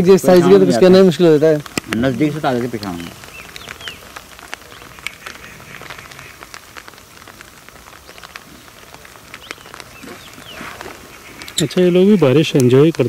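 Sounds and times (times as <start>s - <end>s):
drizzle hissing: 0.0s - 13.0s
raindrops tapping: 0.0s - 13.0s.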